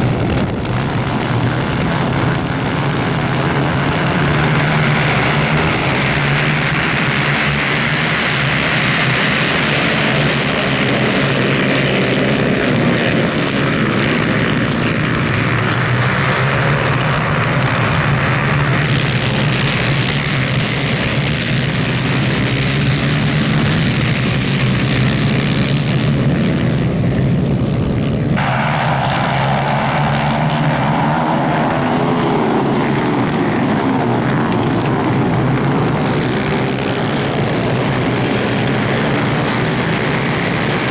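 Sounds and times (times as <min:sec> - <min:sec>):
kart engines at racing revs: 0:00.0 - 0:40.9.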